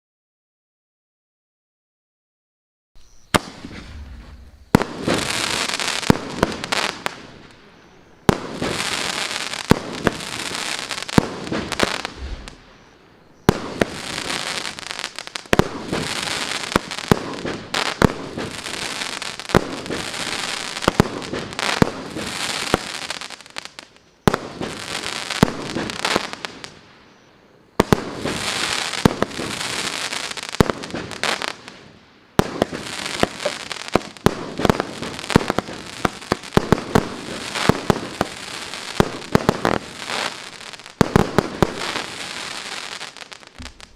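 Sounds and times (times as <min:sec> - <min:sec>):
firework hissing: 0:03.0 - 0:27.2, 0:32.4 - 0:43.9
firework bangs: 0:03.2 - 0:43.9.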